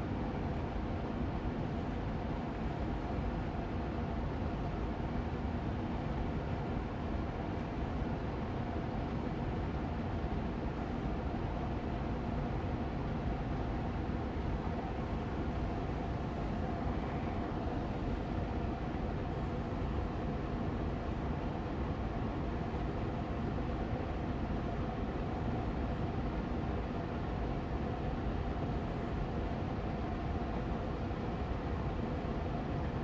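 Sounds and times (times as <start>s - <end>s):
air purifier fan rushing: 0.0s - 33.0s
faint steady hum: 0.0s - 33.0s.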